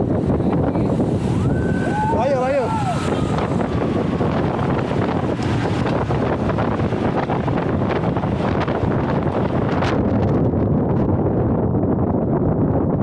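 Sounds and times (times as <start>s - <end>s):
tyre and road rumble: 0.0s - 13.0s
wind buffeting microphone: 0.0s - 13.0s.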